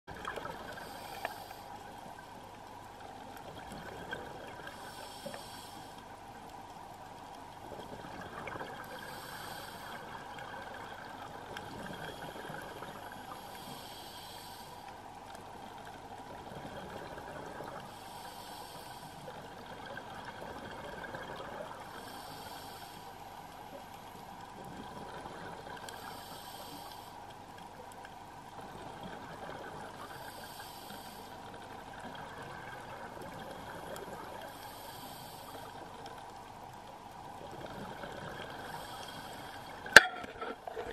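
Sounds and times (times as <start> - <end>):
underwater background noise: 0.1 - 40.9.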